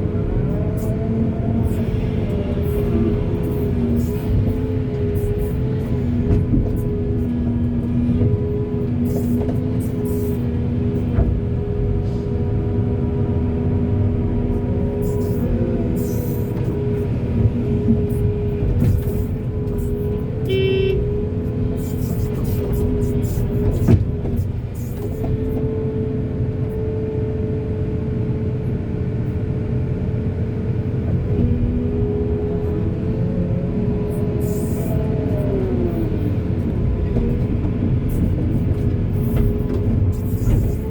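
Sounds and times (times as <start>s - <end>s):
digger engine running: 0.0s - 40.9s.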